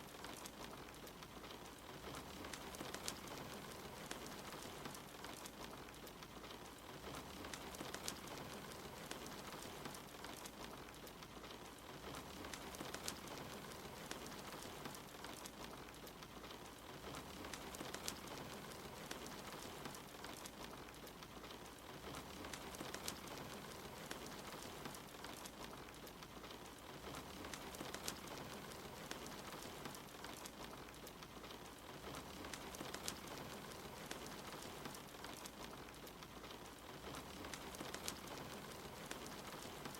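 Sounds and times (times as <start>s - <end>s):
steady rain hiss: 0.0s - 39.9s
wood fire crackling: 0.0s - 39.9s.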